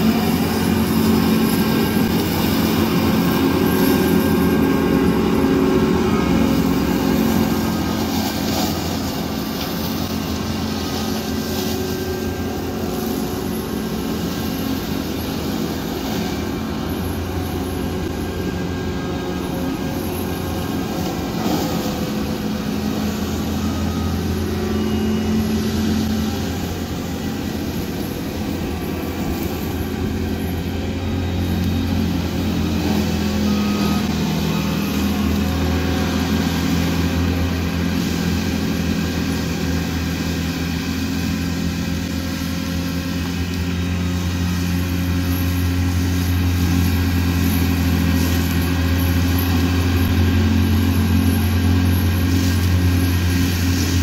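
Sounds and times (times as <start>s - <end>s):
diesel engine and hydraulics running: 0.0s - 54.0s.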